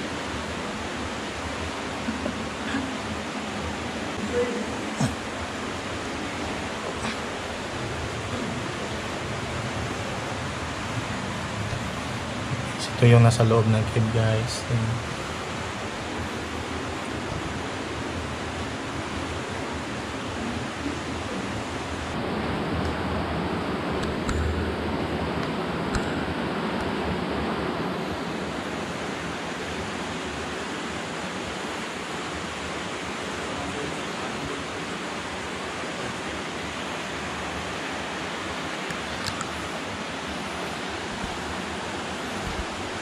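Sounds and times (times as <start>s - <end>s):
water flowing in a cave: 0.0s - 43.0s.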